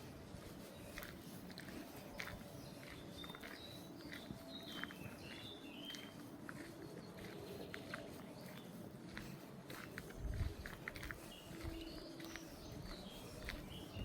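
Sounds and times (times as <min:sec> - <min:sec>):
footsteps crunching on a path: 0:00.0 - 0:14.0
songbird singing: 0:00.0 - 0:14.0.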